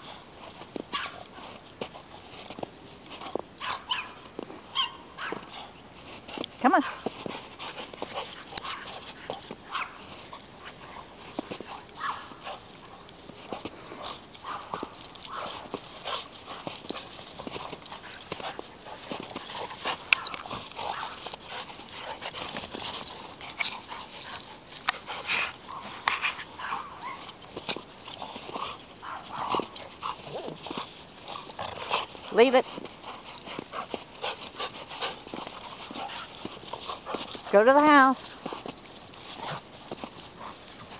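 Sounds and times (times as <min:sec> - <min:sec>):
dogs yipping and whining: 0:00.0 - 0:40.9.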